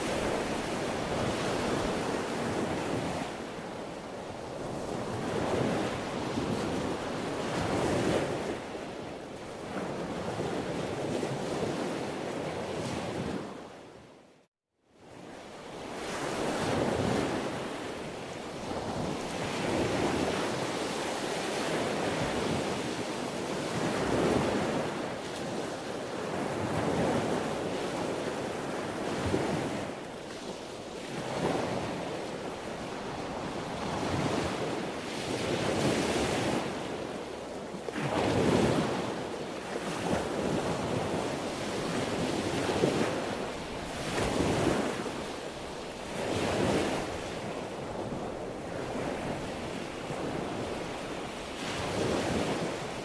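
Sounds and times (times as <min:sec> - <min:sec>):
sea waves breaking: 0:00.0 - 0:08.8, 0:15.8 - 0:53.0.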